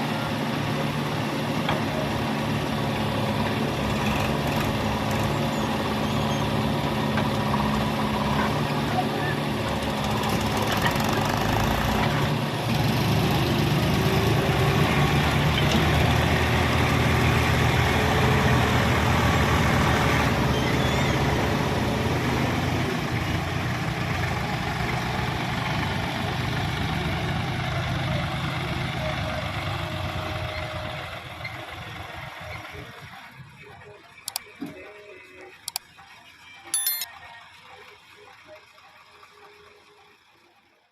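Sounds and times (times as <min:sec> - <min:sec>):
heavy diesel engine running: 0:00.0 - 0:34.4.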